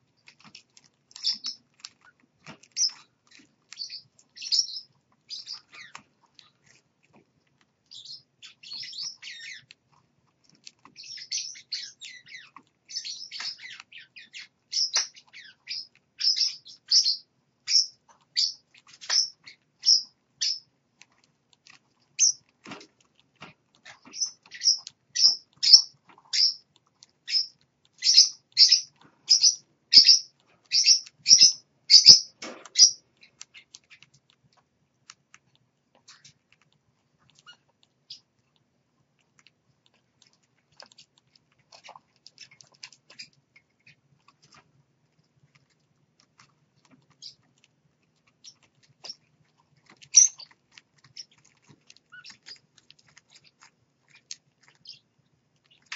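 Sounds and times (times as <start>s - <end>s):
faint clicks and scratches: 0.0s - 31.4s, 32.3s - 55.9s
parrots chirping: 0.2s - 6.8s, 7.9s - 9.8s, 10.8s - 20.7s, 22.0s - 34.2s, 36.0s - 36.4s, 37.2s - 38.3s, 40.0s - 44.6s, 46.8s - 47.5s, 48.2s - 55.9s.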